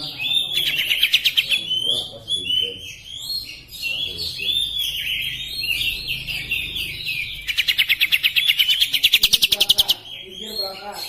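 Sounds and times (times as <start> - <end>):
bird warbling song: 0.0 - 11.0.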